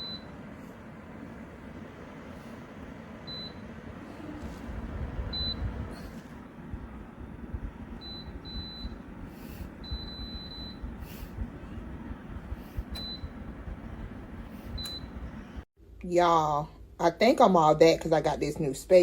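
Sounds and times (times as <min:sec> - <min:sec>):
heater running noise: 0:00.0 - 0:15.7.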